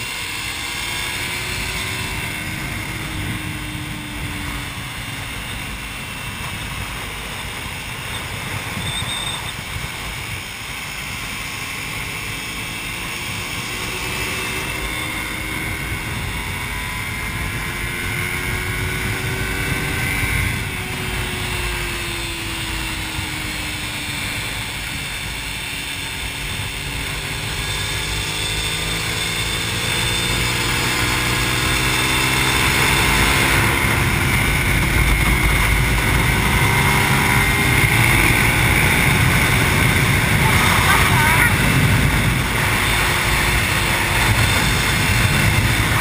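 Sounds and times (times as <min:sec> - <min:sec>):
motorcycle engine: 0:00.0 - 0:46.0
wind rush on microphone: 0:00.0 - 0:46.0.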